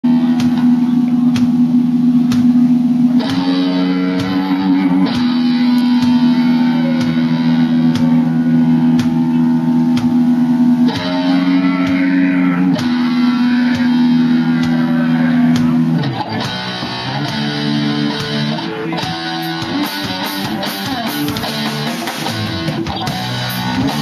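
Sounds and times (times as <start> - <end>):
guitar: 0.0 - 24.0
sharp beat: 0.0 - 24.0.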